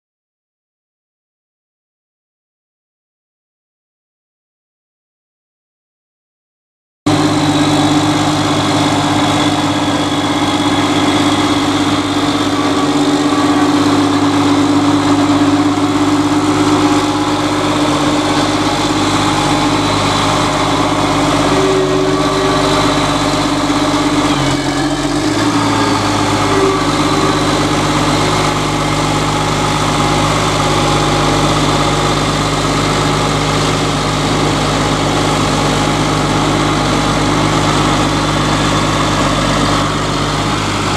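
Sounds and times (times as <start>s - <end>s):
diesel engine running: 7.1s - 40.9s.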